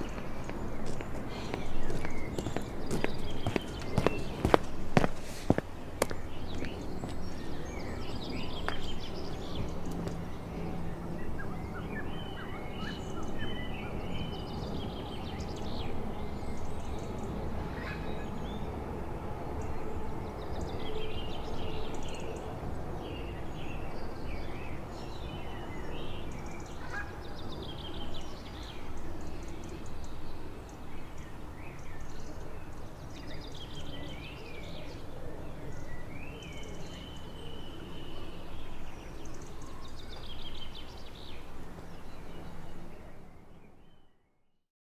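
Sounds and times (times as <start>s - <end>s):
birds chirping and trilling: 0.0s - 44.2s
low outdoor background hum: 0.0s - 44.5s.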